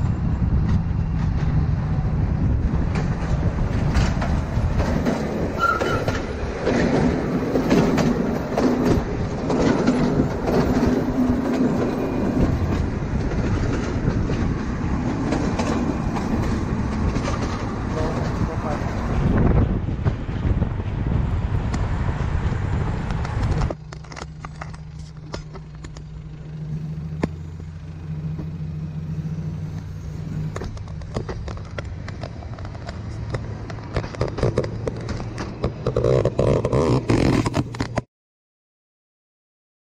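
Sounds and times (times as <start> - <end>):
diesel locomotive engine hum: 0.0 - 38.0
car road and wind noise: 0.0 - 38.1
carriages clicking and rattling: 0.4 - 38.1.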